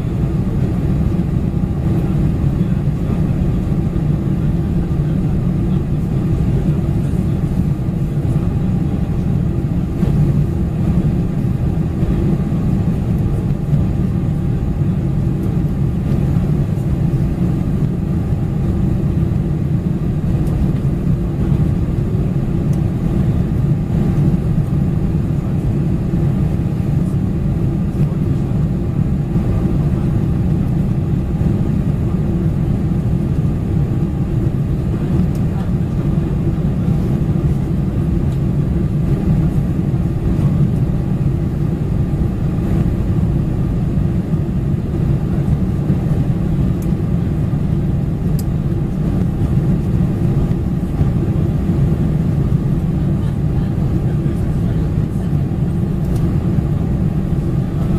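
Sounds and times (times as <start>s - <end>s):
airplane cabin engine drone: 0.0s - 57.9s.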